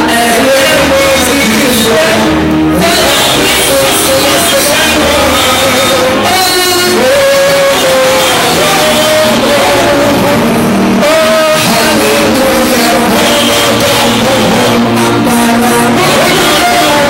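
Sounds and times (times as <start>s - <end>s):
loud music with singing: 0.0s - 17.0s.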